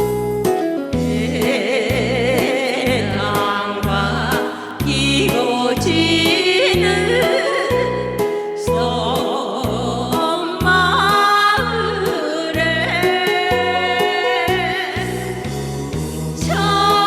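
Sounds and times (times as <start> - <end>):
amplified backing track with bass beat: 0.0 - 17.0
women singing with vibrato: 1.1 - 15.8, 16.4 - 17.0.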